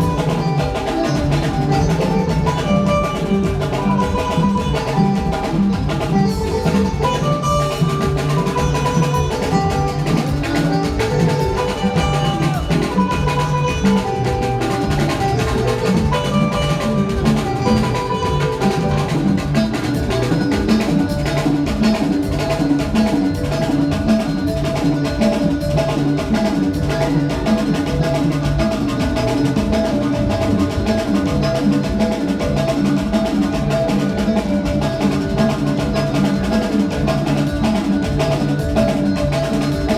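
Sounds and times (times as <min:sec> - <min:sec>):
drum kit and percussion: 0:00.0 - 0:39.9
guitar: 0:00.0 - 0:39.9
keyboard melody: 0:00.0 - 0:39.9.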